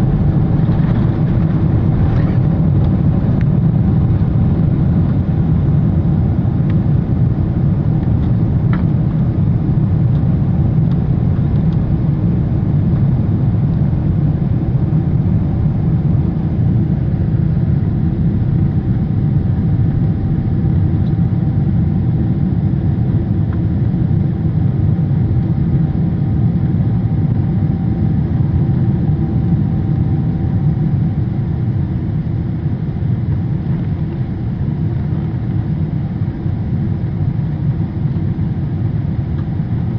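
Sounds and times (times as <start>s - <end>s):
airplane engine low rumble: 0.0s - 39.9s.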